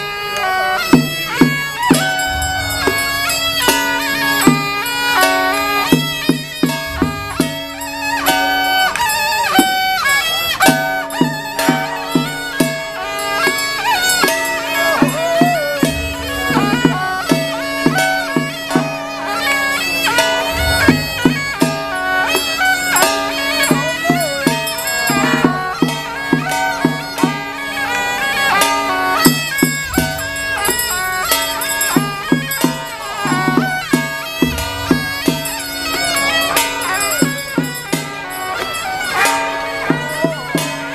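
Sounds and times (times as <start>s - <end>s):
percussion strikes: 0.0s - 40.9s
shawm playing a melody: 0.0s - 40.9s.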